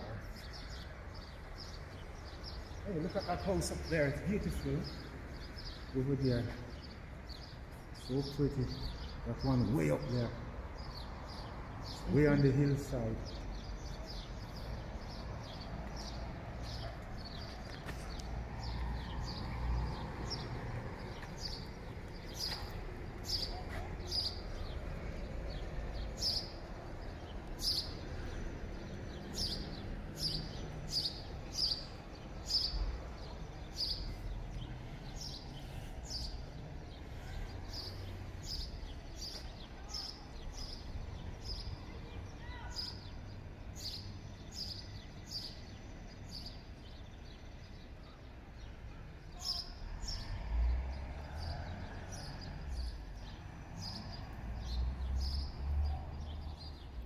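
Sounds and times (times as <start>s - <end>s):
bird chirping: 0.0s - 48.7s.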